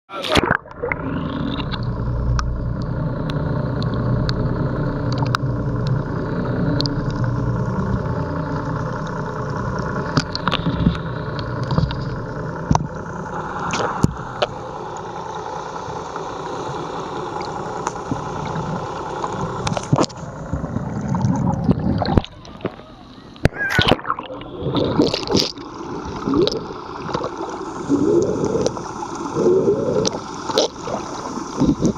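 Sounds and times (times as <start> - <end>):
underwater boat engine drone: 0.1 - 31.9.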